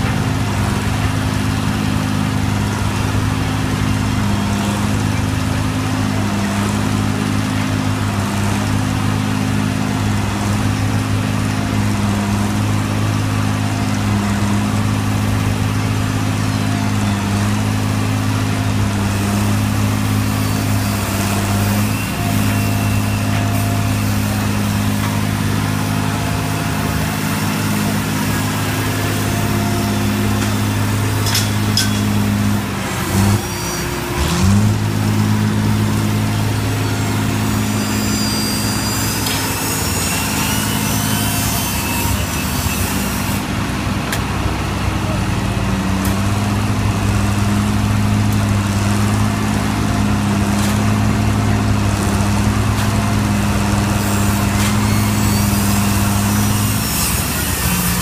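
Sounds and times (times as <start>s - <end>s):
drill rig engine running: 0.0s - 58.0s.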